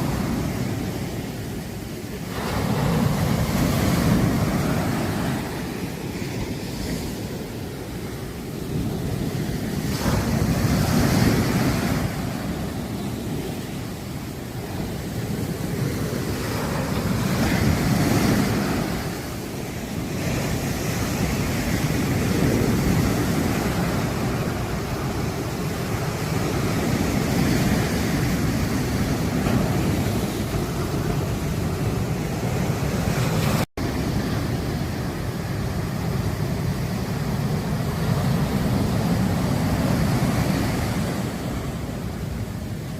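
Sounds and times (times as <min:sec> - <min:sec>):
waves breaking on a beach: 0:00.0 - 0:42.9.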